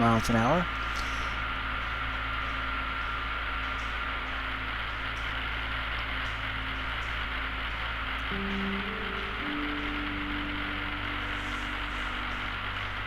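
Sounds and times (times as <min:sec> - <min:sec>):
light aircraft engine drone: 0:00.0 - 0:13.0.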